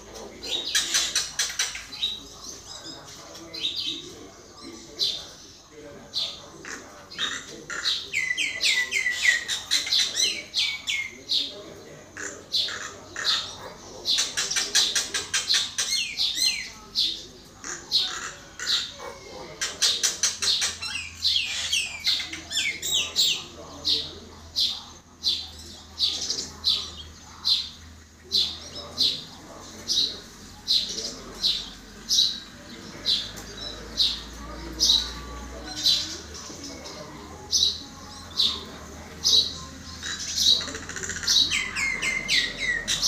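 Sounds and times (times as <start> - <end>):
bird chattering and singing: 0.0 - 43.0.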